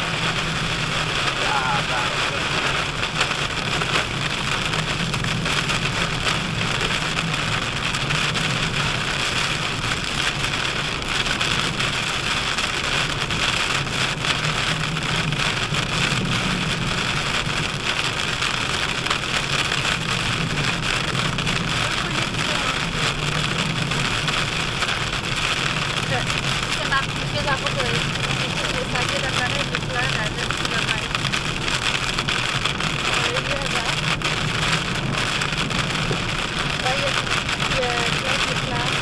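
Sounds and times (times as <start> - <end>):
car engine: 0.0 - 39.0
heavy rain on car roof: 0.0 - 39.0
tyres on wet road: 0.0 - 39.0.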